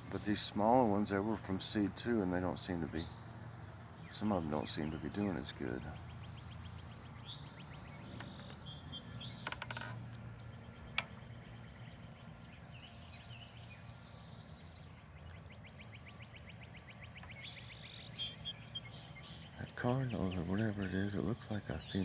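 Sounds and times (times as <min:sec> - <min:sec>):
low background rumble: 0:00.0 - 0:22.0
high bird chirps: 0:03.0 - 0:22.0
bird trilling: 0:04.0 - 0:22.0.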